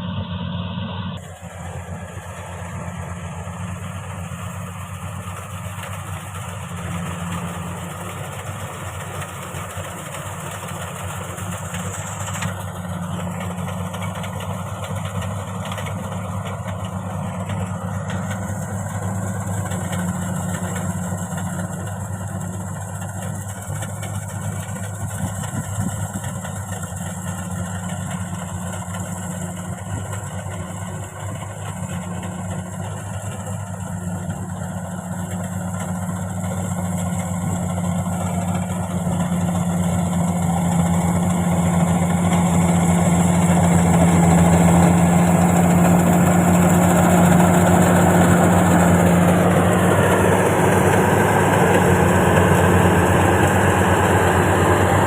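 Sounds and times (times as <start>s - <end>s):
harvester engine humming: 0.0s - 55.0s.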